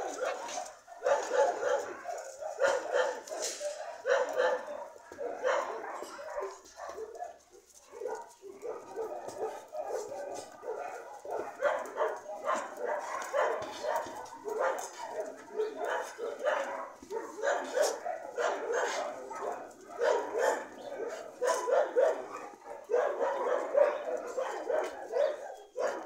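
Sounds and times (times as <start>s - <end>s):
dogs barking and yelping: 0.0s - 26.0s.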